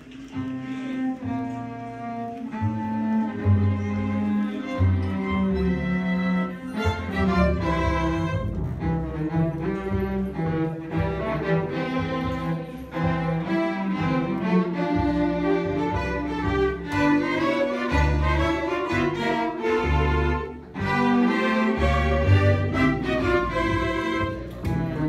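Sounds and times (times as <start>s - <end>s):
string ensemble playing: 0.0s - 25.0s.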